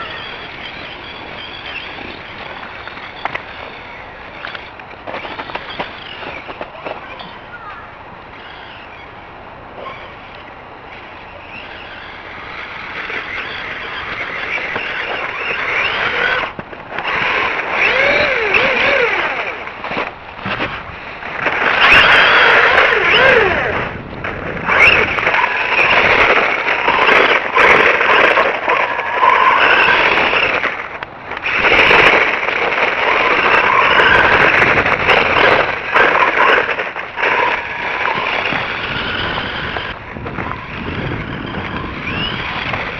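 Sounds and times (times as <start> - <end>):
electric toy truck motor whine: 0.0 - 6.6, 8.3 - 9.3, 10.0 - 42.9.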